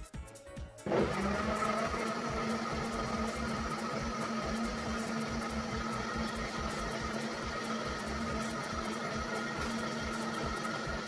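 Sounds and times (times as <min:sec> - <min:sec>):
blender running: 0:00.8 - 0:11.0.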